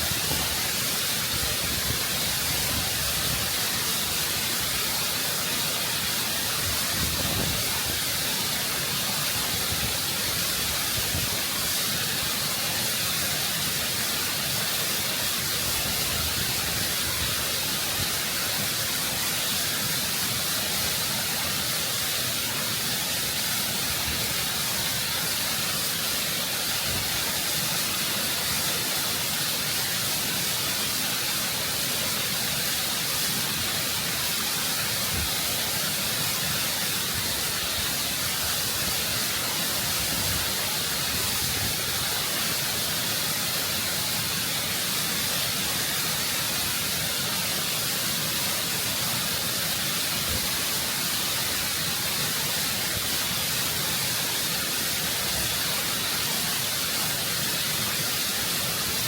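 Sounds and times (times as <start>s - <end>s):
waterfall rushing over rock: 0.0s - 59.0s.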